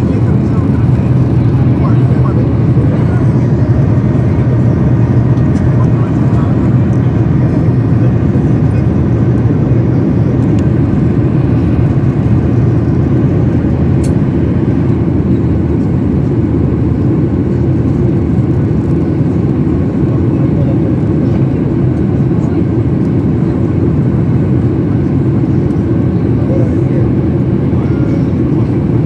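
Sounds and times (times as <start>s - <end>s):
jet engine and airflow rumble: 0.0s - 29.0s.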